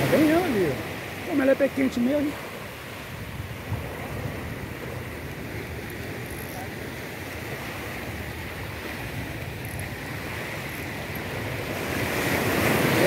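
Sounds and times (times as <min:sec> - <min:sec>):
small waves washing onto beach: 0:00.0 - 0:13.0.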